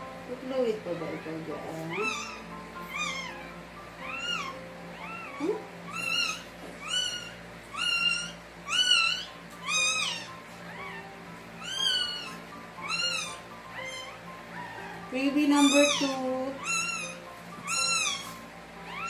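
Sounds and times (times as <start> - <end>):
puppy crying in high-pitched squeals: 0.9 - 19.0.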